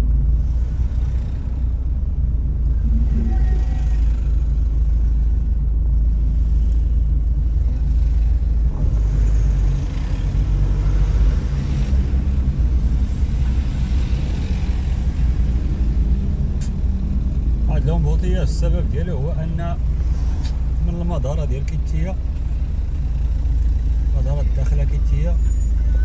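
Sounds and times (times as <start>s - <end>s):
car engine rumble: 0.0s - 26.0s
road noise inside car: 0.0s - 26.0s.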